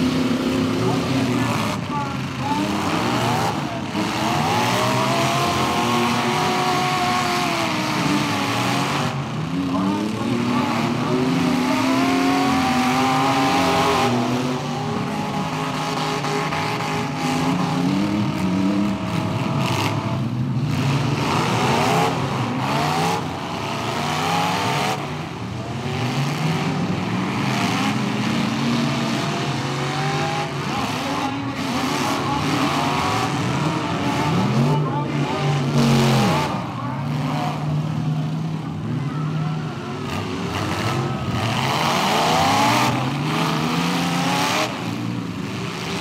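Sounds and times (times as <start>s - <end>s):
truck engines revving: 0.0s - 46.0s.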